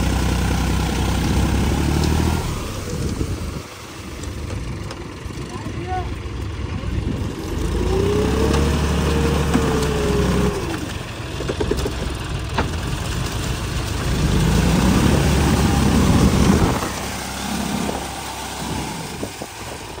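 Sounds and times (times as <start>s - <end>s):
tractor diesel engine labouring: 0.0s - 20.0s.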